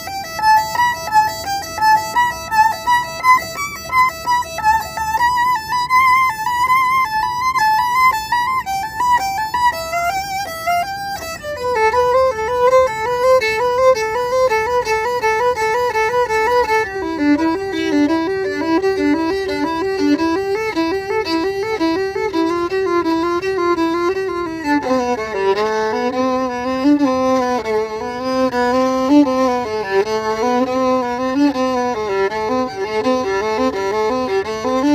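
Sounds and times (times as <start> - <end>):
solo violin quick bowed notes: 0.0 - 34.9.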